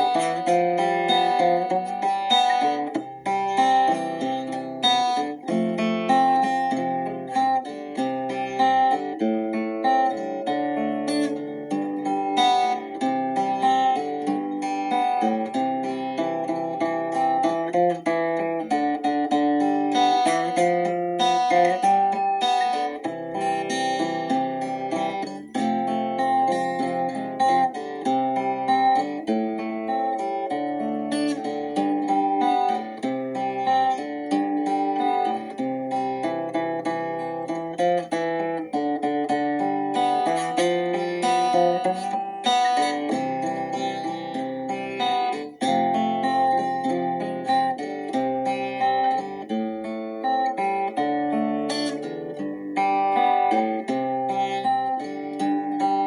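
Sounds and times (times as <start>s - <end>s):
acoustic guitar melody: 0.0s - 56.0s.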